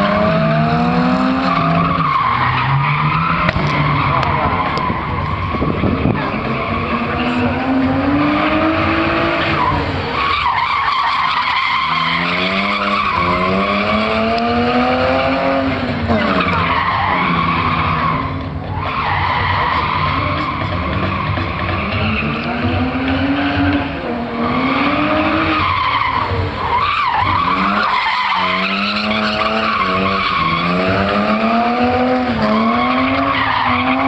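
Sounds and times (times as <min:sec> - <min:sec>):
car engine revving: 0:00.0 - 0:34.0
tyre screech: 0:01.3 - 0:34.0.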